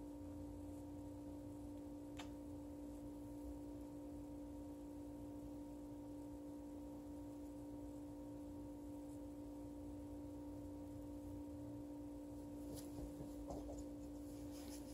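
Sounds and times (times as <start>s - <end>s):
steady hum: 0.0s - 14.9s.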